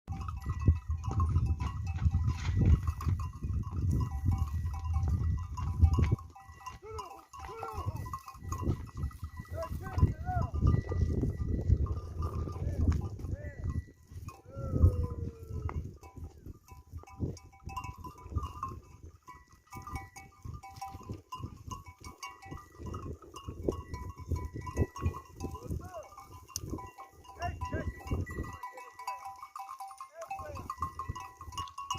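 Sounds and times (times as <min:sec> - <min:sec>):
goats moving about: 0:00.1 - 0:31.9.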